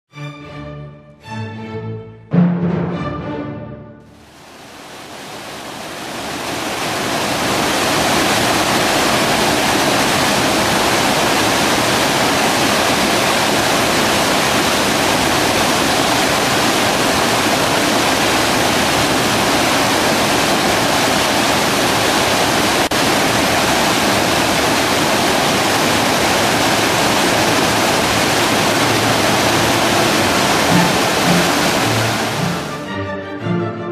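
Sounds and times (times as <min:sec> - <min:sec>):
river water rushing over rocks: 0:04.2 - 0:32.8.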